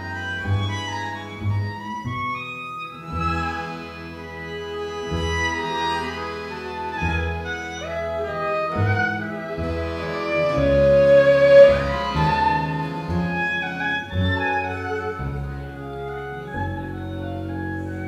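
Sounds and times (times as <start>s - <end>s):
accordion: 0.0s - 18.0s
double bass: 0.0s - 18.0s
violins playing melody: 0.0s - 18.0s.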